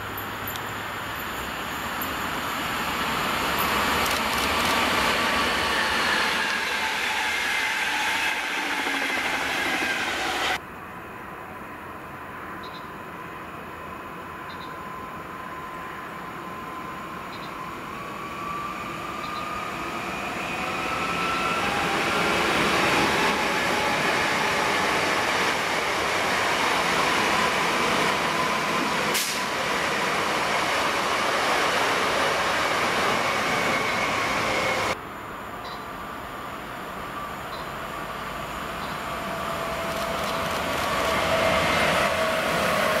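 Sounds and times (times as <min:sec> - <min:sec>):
distant electric locomotive: 0:00.0 - 0:43.0
train wheels rushing on rail: 0:00.1 - 0:10.6, 0:14.9 - 0:35.0, 0:36.4 - 0:43.0.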